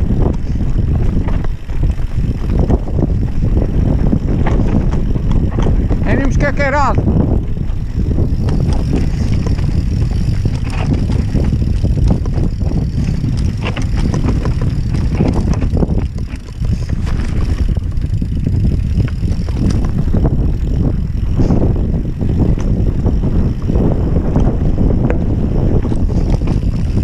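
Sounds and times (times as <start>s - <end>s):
bike clattering and knocking: 0.0s - 27.0s
wind rumble on microphone: 0.0s - 27.0s.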